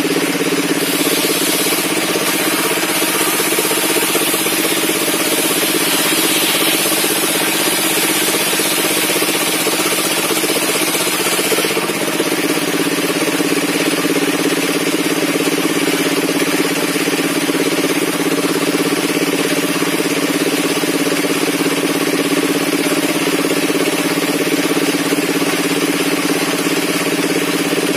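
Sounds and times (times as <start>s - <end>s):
circular saw running: 0.0s - 27.9s.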